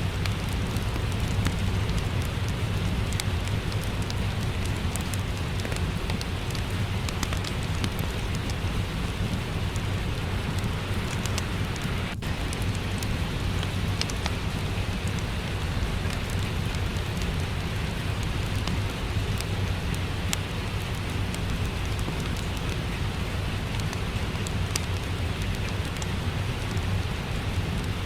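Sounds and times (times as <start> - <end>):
steady rain falling: 0.0 - 28.0
wood fire crackling: 0.0 - 28.0.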